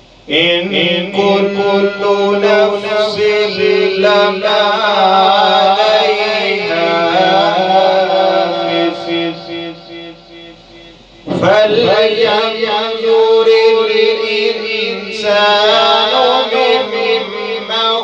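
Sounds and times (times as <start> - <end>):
man chanting recitation: 0.3 - 18.0.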